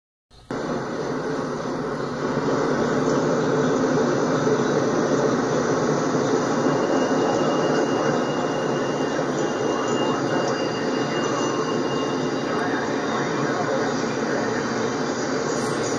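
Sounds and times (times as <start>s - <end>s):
diesel locomotives passing: 0.4s - 15.9s
freight train rumbling and clattering: 0.4s - 15.9s
wheel flanges squealing: 0.4s - 15.9s.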